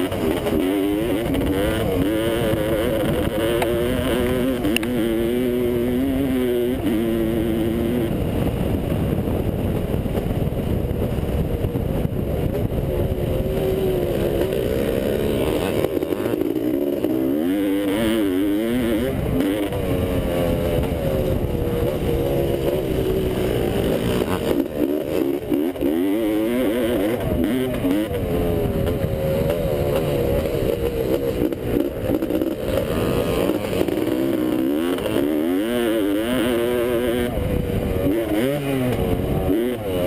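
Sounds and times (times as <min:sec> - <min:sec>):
motorcycle engine revving: 0:00.0 - 0:40.0
wind and track noise: 0:00.0 - 0:40.0.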